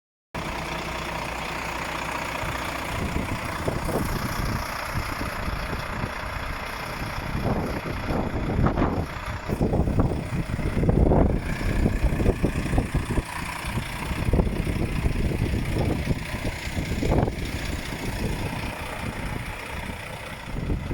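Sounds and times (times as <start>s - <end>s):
truck diesel engine idling: 0.4s - 20.9s.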